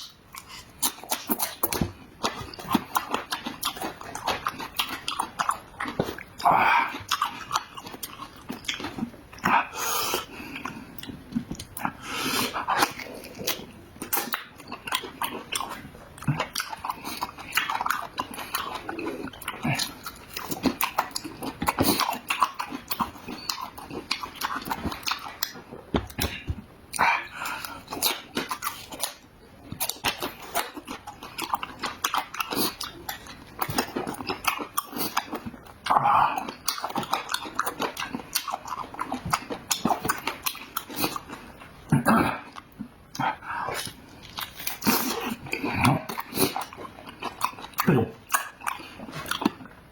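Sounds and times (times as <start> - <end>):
person chewing and slurping: 0.0 - 49.9.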